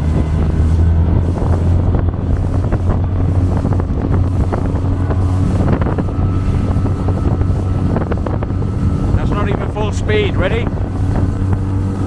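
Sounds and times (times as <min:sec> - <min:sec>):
motorboat engine hum: 0:00.0 - 0:12.0
wind buffeting microphone: 0:00.0 - 0:12.0.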